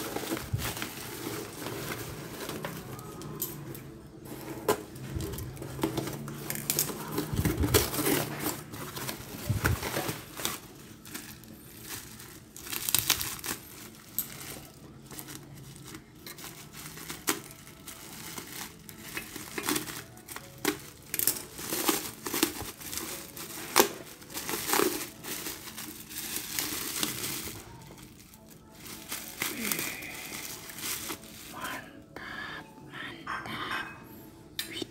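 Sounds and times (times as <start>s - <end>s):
bubble wrap crinkling: 0.0s - 3.4s, 4.2s - 32.1s.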